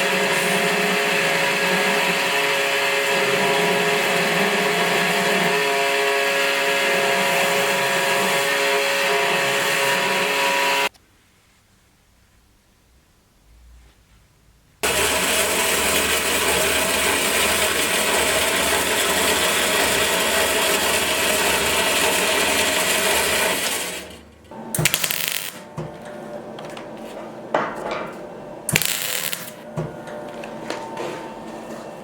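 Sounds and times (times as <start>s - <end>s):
power tool running: 0.0s - 10.9s, 14.8s - 31.0s.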